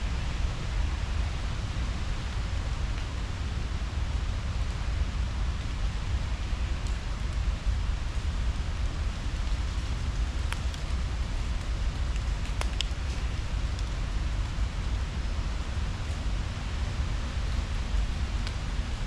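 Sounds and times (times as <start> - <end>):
low unsteady rumble: 0.0 - 19.0.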